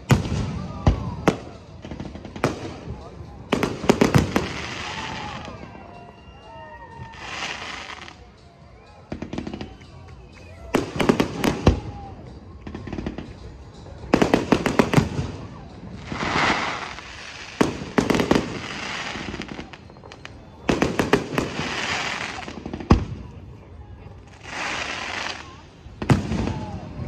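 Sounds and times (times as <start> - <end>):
fireworks bangs: 0.0 - 5.8, 10.6 - 27.0
fireworks crackling hiss: 0.0 - 5.8, 7.0 - 8.5, 9.1 - 27.0.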